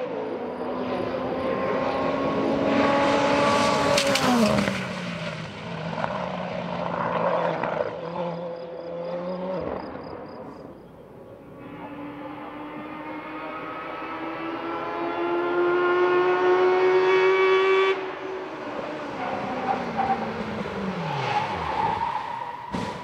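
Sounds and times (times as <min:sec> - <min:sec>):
race car engine passing: 0:00.0 - 0:10.5, 0:11.1 - 0:23.0.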